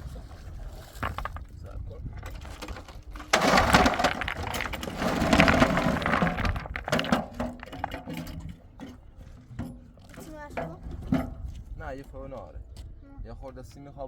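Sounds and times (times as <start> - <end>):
building materials scraping and clattering: 0.1 - 11.6.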